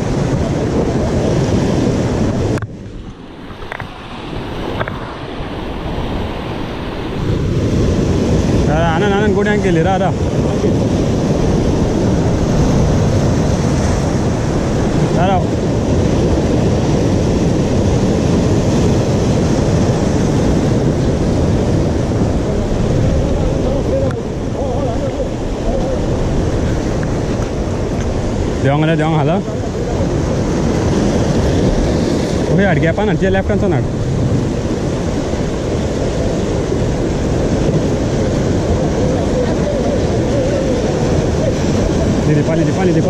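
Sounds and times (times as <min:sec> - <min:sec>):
surf washing over rocks: 0:00.0 - 0:43.0
wind buffeting microphone: 0:00.0 - 0:43.0.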